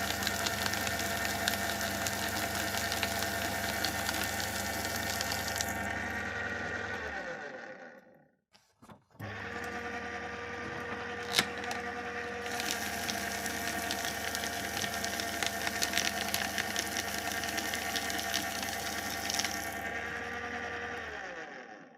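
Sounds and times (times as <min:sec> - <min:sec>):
shredder motor humming: 0:00.0 - 0:08.3, 0:09.2 - 0:21.9
shredder cutting paper: 0:00.0 - 0:21.9.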